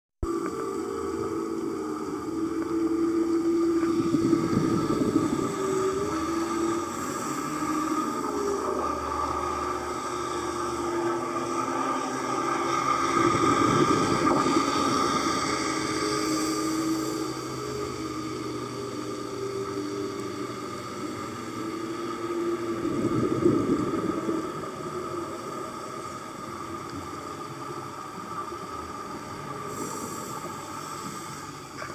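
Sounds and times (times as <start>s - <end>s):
rushing noise: 0.2s - 31.9s
underwater droning hum: 0.2s - 31.9s
hiss: 0.3s - 31.9s.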